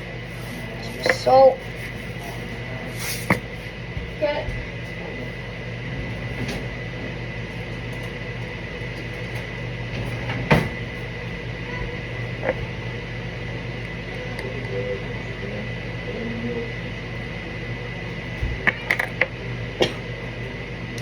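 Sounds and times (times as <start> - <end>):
kitchen appliance humming: 0.0 - 21.0.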